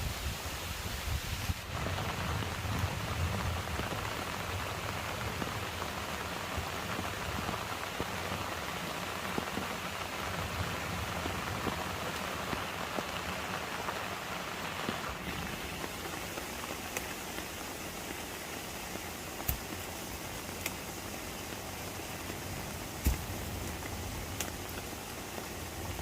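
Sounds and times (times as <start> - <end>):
rain pattering: 0.4 - 26.0.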